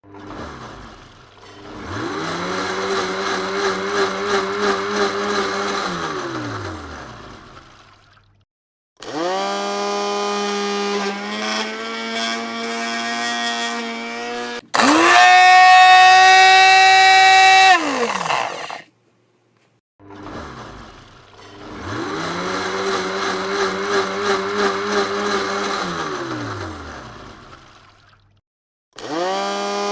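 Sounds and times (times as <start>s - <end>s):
blender motor running: 0.3s - 7.7s, 9.0s - 18.8s, 20.4s - 27.9s, 29.0s - 29.9s.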